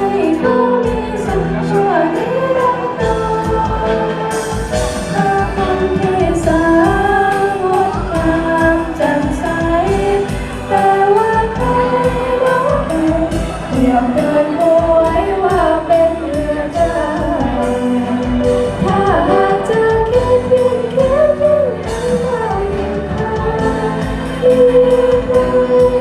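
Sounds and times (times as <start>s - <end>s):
instrumental accompaniment with beat: 0.0s - 26.0s
person singing: 0.0s - 26.0s.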